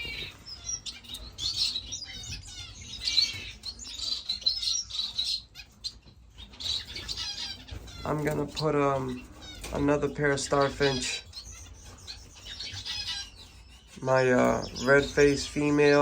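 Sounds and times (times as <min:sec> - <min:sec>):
finches chirping: 0:00.0 - 0:16.0.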